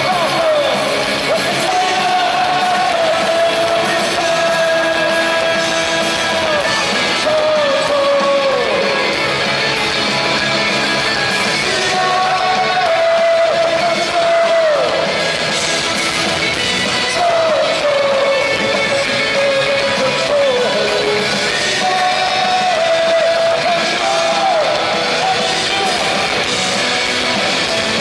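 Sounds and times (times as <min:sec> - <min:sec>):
person singing: 0:00.0 - 0:15.5, 0:16.6 - 0:28.0
drums: 0:00.0 - 0:28.0
electric guitars: 0:00.0 - 0:28.0.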